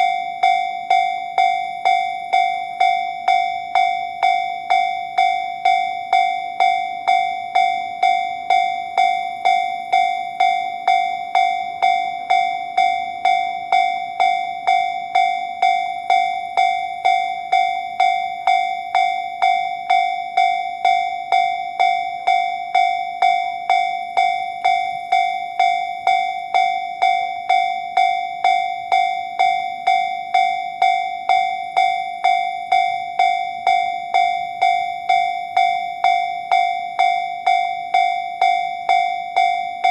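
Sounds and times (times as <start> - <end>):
level crossing alarm bell: 0.0 - 39.9.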